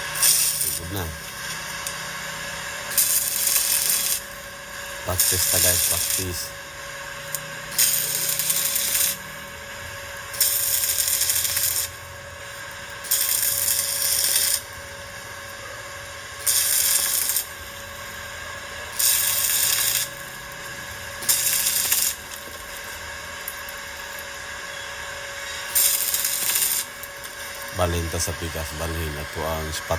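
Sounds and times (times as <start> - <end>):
welding arc crackling hiss: 0.0 - 29.9.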